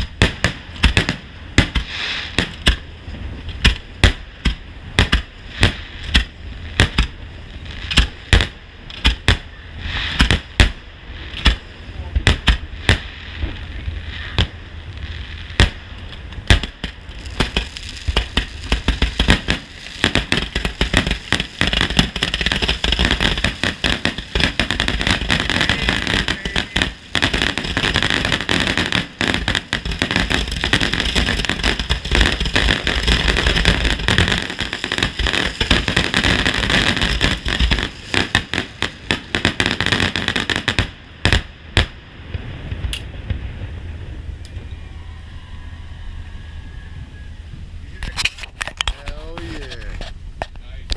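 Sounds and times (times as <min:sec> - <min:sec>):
firework barrage crackling: 0:00.0 - 0:50.9.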